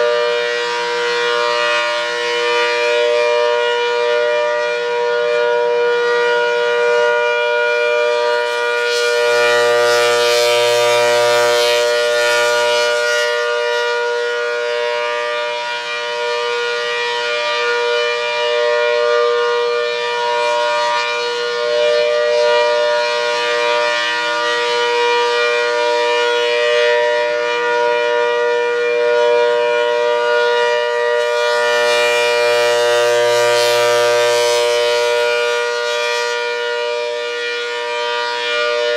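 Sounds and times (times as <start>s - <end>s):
tornado siren two-tone chord: 0.0s - 38.9s.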